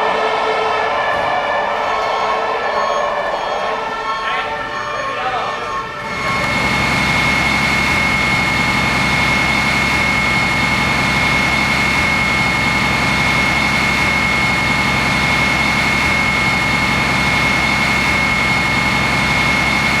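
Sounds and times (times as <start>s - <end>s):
heavy engine idling: 0.0s - 20.0s
high-pitched whine: 0.0s - 20.0s.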